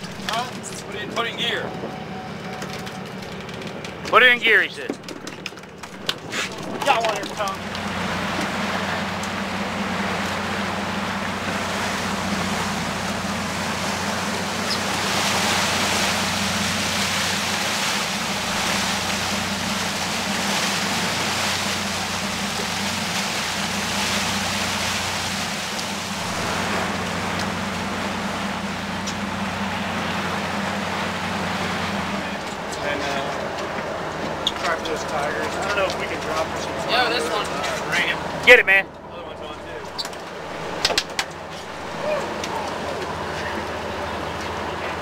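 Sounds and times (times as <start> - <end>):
boat engine humming: 0.0 - 45.0
rushing water: 0.0 - 45.0
wind: 0.0 - 45.0.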